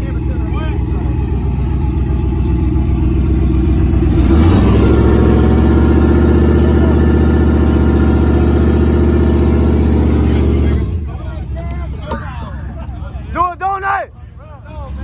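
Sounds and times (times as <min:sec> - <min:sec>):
vehicle engine idling and revving: 0:00.0 - 0:15.0.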